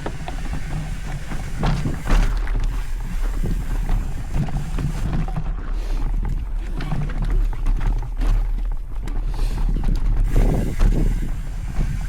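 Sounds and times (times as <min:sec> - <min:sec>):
bike rattling over bumps: 0:00.0 - 0:12.0
mountain bike rolling on dirt: 0:00.0 - 0:12.0
wind buffeting microphone: 0:00.0 - 0:12.0.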